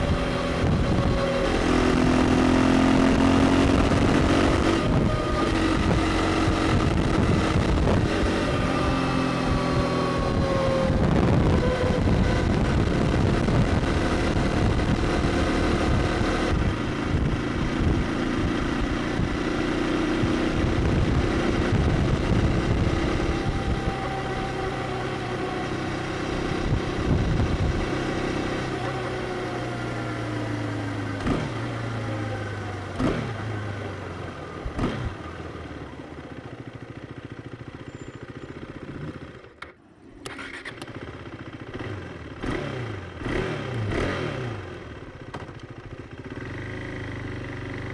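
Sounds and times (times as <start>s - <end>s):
motorcycle engine: 0.0s - 47.9s.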